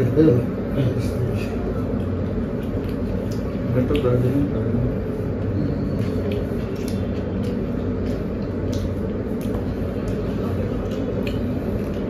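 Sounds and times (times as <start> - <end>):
low room hum: 0.0 - 12.0
mouth sounds of eating: 0.0 - 12.0.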